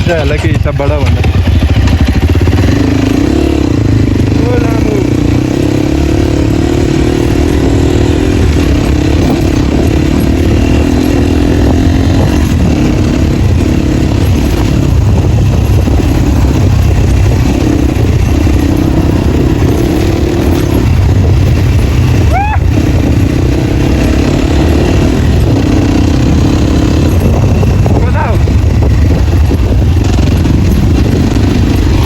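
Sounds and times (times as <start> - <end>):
loud dirt bike engine revving: 0.0 - 32.0.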